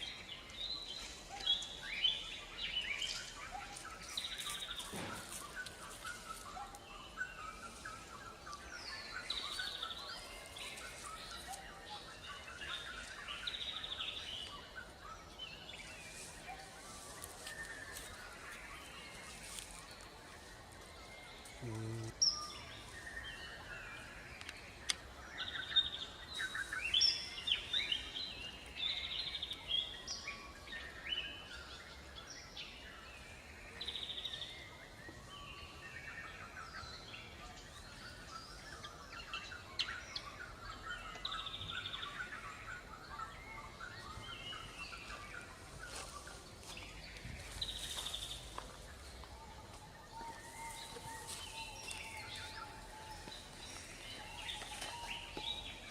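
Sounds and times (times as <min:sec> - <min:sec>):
birds chirping and singing: 0:00.0 - 0:55.9.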